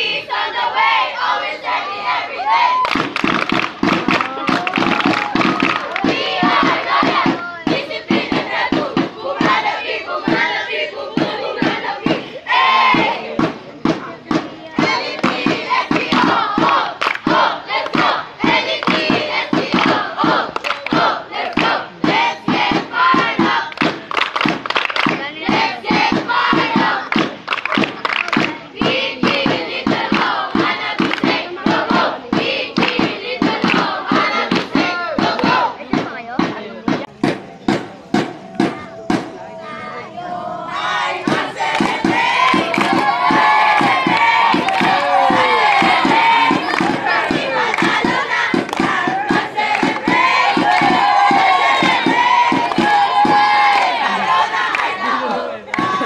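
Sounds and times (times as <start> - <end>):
young voices chanting and singing: 0.0 - 56.0
rhythmic clapping: 2.8 - 39.4, 40.7 - 56.0.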